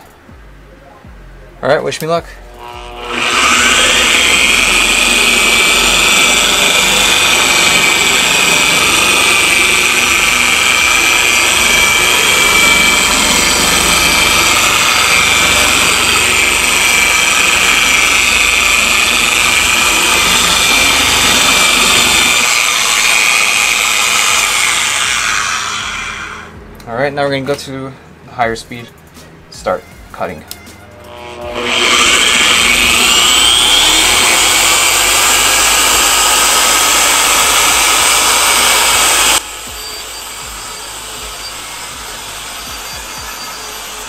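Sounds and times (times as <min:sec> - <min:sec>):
polisher whining: 0:02.4 - 0:26.6, 0:30.8 - 0:44.0.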